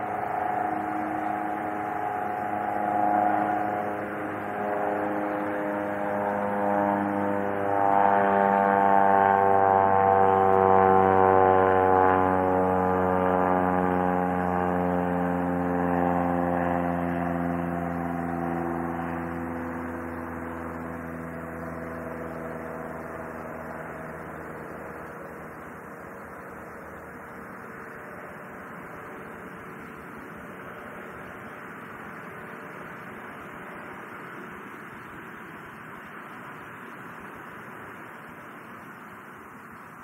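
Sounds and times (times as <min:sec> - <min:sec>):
passing engine hum: 0:00.0 - 0:40.0.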